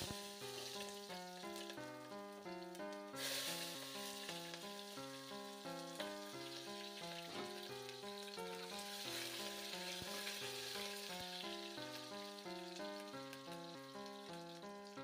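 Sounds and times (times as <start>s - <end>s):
onions sizzling in oil: 0.0s - 1.8s, 2.6s - 15.0s
instrumental background music: 0.0s - 15.0s.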